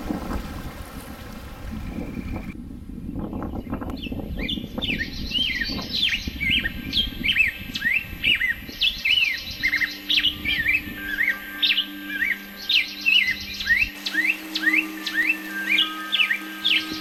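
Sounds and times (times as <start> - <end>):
low sustained music notes: 0.0 - 17.0
songbird singing whistled notes: 1.7 - 17.0.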